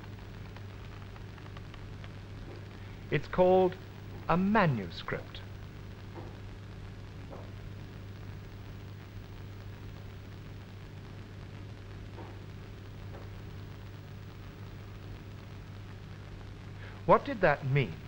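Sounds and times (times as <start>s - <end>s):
film soundtrack hiss: 0.0s - 18.0s
low mains hum: 0.0s - 18.0s.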